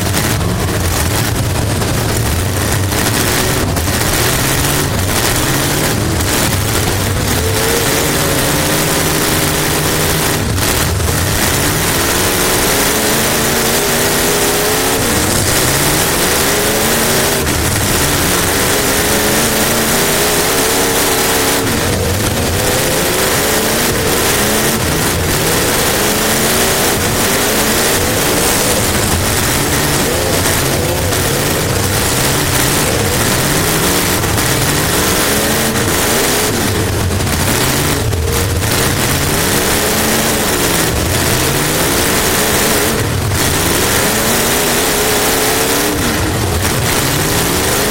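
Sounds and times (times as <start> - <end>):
race car engine revving: 0.0 - 47.9
wind and road noise: 0.0 - 47.9.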